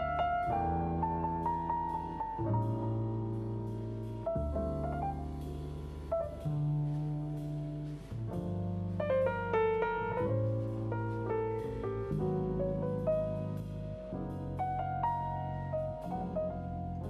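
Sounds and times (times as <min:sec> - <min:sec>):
double bass notes: 0:00.0 - 0:17.0
grand piano playing jazz: 0:00.0 - 0:17.0.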